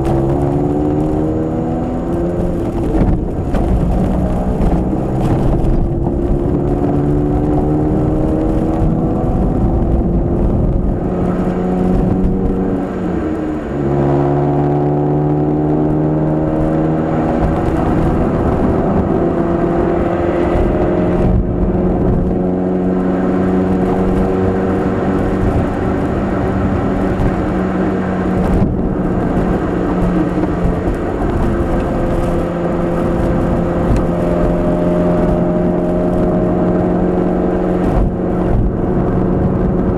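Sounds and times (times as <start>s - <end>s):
car engine accelerating in cabin: 0.0s - 39.9s.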